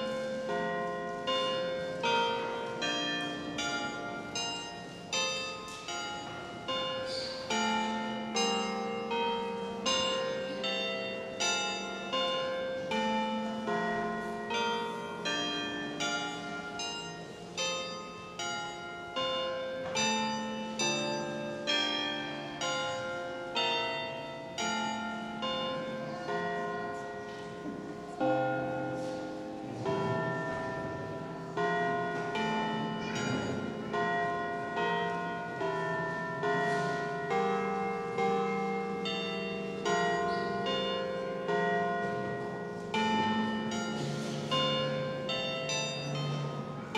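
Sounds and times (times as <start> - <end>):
bells ringing a tune: 0.0 - 46.9.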